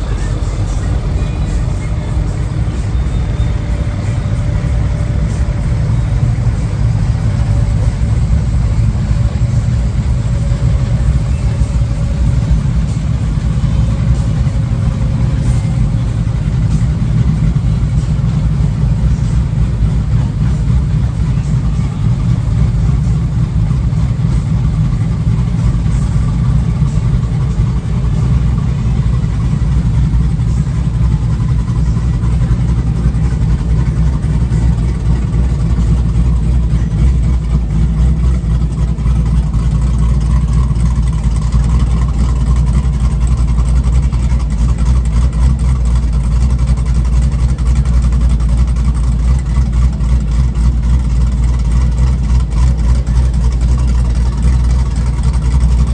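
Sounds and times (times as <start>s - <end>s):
vehicle engine idling: 0.0s - 55.9s.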